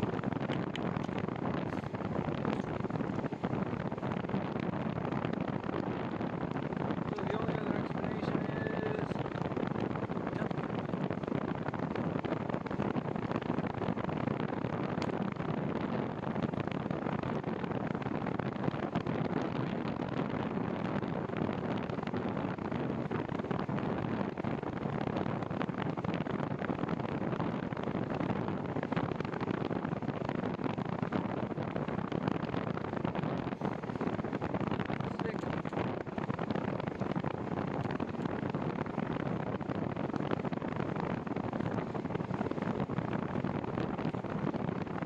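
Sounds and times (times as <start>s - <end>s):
wind noise on microphone: 0.0s - 45.0s.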